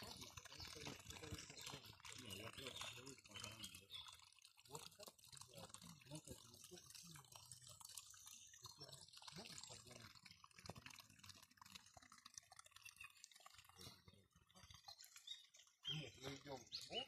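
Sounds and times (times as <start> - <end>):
faint stream trickling: 0.0 - 17.0.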